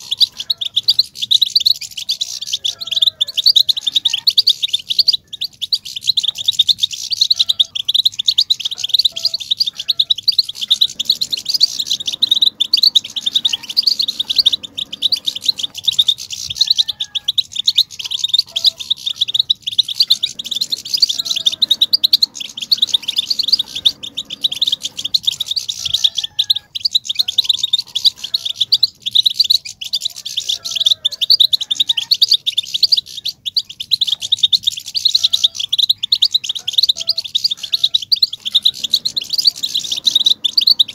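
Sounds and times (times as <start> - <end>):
finches twittering and chattering: 0.0 - 40.9.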